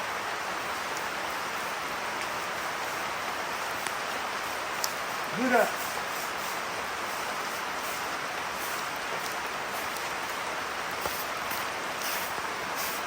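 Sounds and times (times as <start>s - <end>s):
rain pouring: 0.0s - 13.0s.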